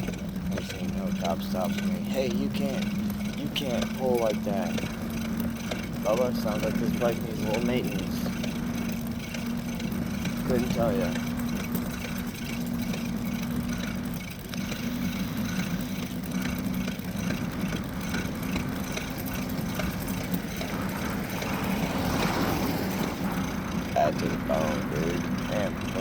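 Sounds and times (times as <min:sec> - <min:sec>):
motorbike engine running: 0:00.0 - 0:26.0
road noise: 0:00.0 - 0:26.0.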